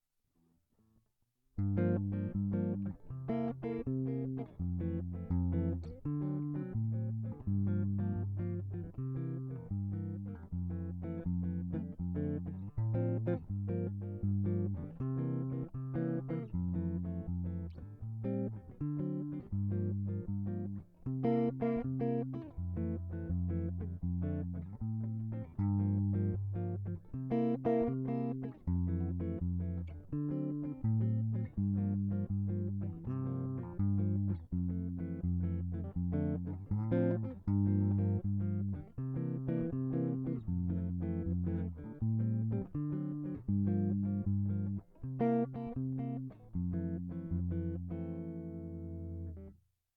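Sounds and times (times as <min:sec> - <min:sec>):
plucked guitar: 0:01.6 - 0:49.6.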